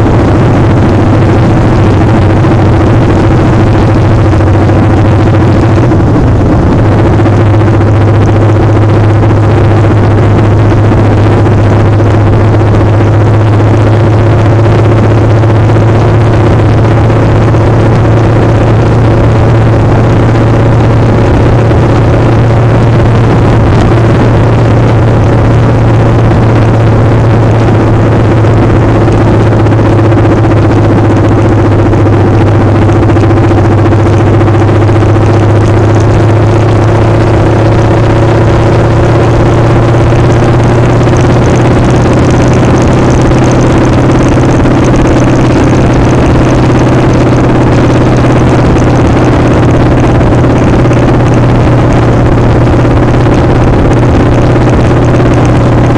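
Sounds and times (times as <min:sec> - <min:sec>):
motorcycle engine running: 0:00.0 - 0:55.9
wind noise on microphone: 0:00.0 - 0:55.9.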